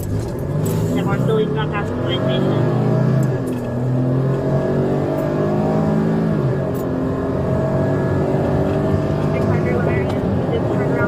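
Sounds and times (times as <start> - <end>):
car engine at high speed: 0.0 - 11.0.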